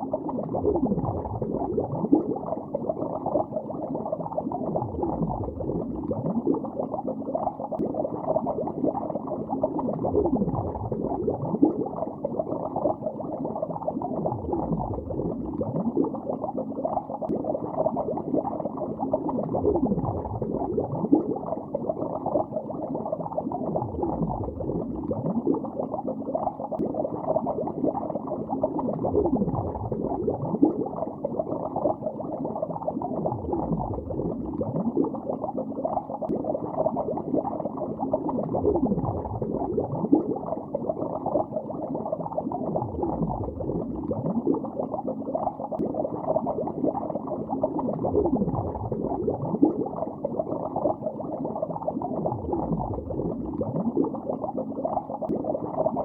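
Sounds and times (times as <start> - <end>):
underwater bubbling: 0.0 - 56.0.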